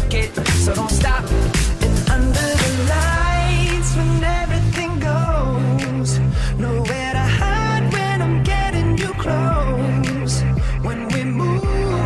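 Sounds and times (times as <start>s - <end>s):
upbeat pop music: 0.0s - 12.0s.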